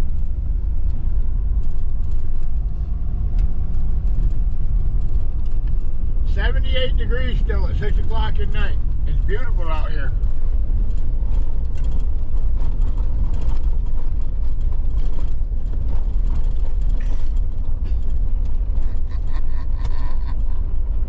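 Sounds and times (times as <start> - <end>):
road rumble inside vehicle: 0.0 - 21.0.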